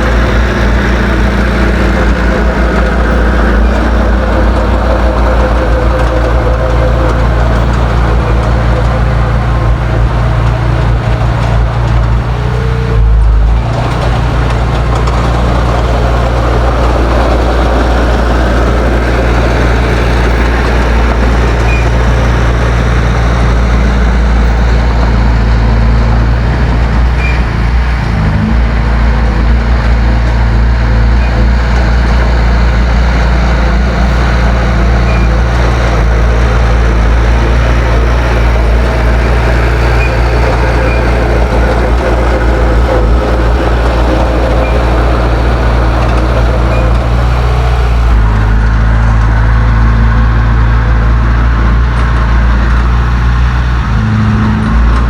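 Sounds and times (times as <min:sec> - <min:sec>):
heavy diesel machinery engine running: 0:00.0 - 0:55.0.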